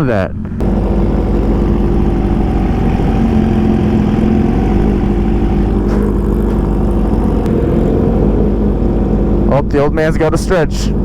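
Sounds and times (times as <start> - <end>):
wind and road noise: 0.0 - 11.0
motorcycle engines droning: 0.4 - 11.0.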